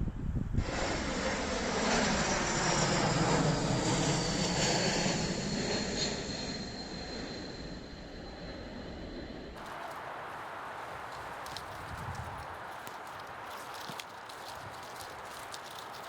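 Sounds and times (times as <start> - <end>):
jet airplane flying past: 0.5 - 16.0.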